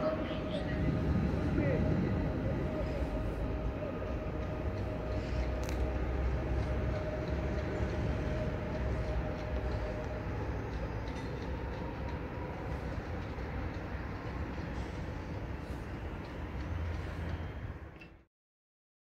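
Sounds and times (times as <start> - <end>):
thin steady whine: 0.0 - 17.9
train running gear rumble: 0.0 - 18.2.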